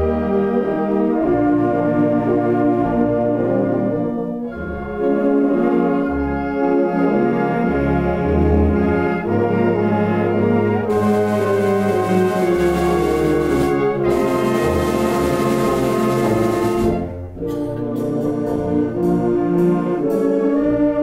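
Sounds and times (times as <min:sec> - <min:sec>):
orchestra playing sustained chords: 0:00.0 - 0:21.0.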